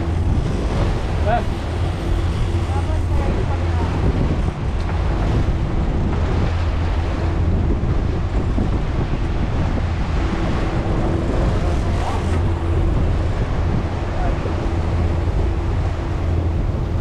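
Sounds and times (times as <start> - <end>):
sea water splashing along hull: 0.0 - 17.0
wind buffeting microphone: 0.0 - 17.0.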